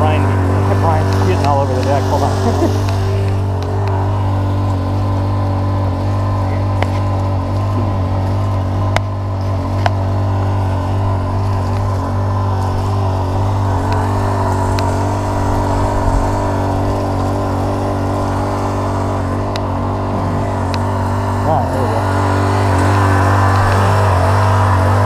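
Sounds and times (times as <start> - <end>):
small petrol engine running: 0.0 - 25.0.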